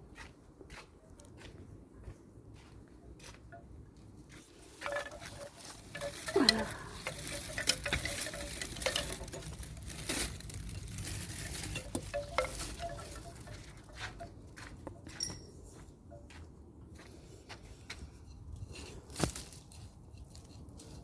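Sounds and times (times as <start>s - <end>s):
soil and plants rustling: 0.0s - 21.0s.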